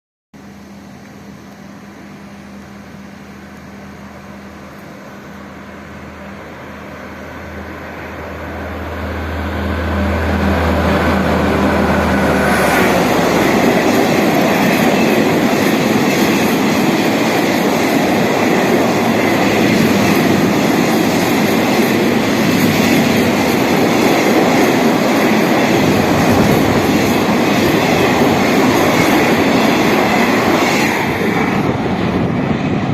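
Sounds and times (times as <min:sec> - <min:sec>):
freight train rolling on rails: 0:00.4 - 0:32.9
locomotive engine drone: 0:00.4 - 0:32.9.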